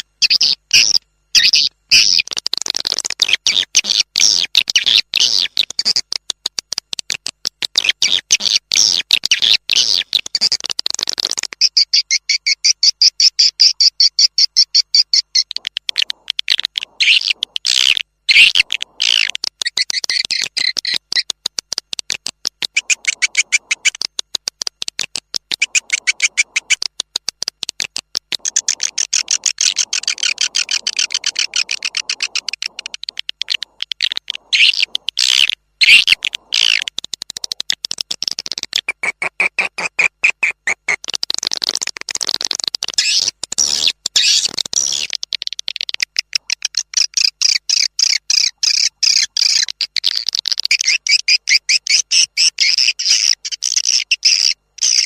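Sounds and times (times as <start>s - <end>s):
rapid twittering bird chirps: 0.0s - 6.3s, 7.2s - 55.0s.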